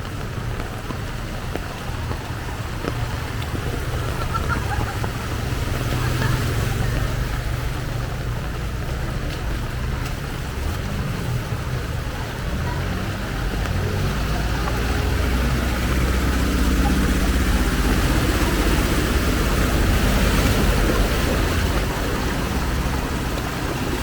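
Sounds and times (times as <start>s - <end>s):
heavy rain hiss: 0.0s - 24.0s
vehicle engine rumbling: 0.0s - 24.0s.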